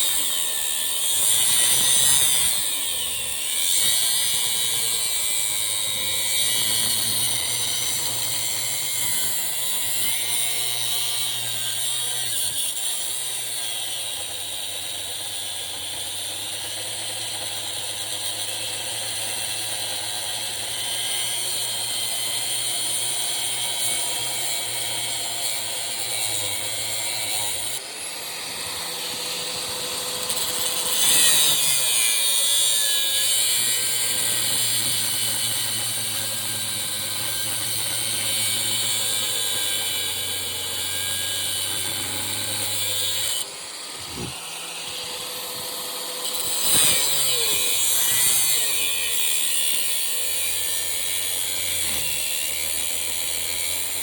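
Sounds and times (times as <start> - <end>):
angle grinder cutting metal: 0.0 - 54.0.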